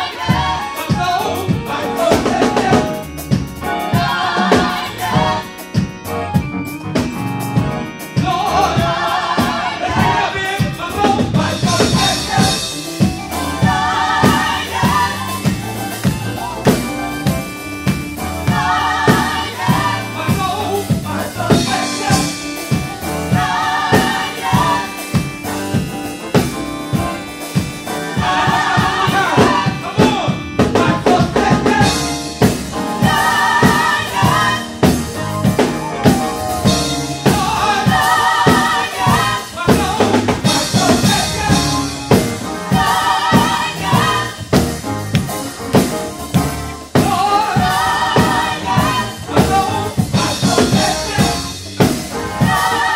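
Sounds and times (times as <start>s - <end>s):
drum kit: 0.0s - 52.9s
gospel group singing: 0.0s - 52.9s.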